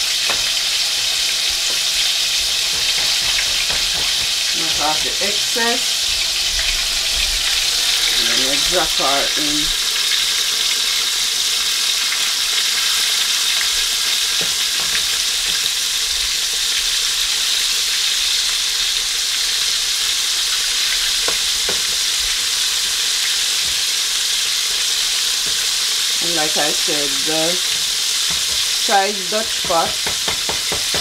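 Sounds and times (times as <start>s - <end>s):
chicken deep-frying in hot oil: 0.0s - 31.0s.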